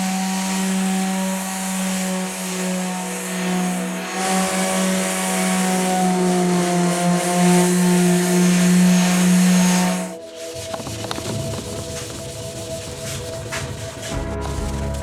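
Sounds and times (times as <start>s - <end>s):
power sander on wood: 0.0s - 15.0s.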